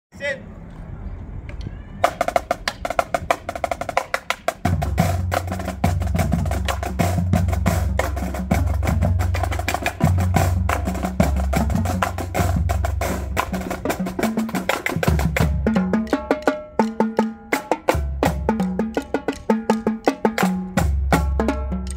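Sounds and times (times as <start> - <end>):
low drum notes: 1.5 - 21.9
marching drumline playing: 2.0 - 21.9.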